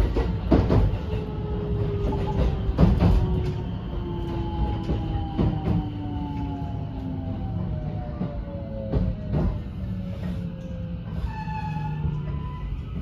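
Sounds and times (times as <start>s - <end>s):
low train rumble: 0.0s - 13.0s.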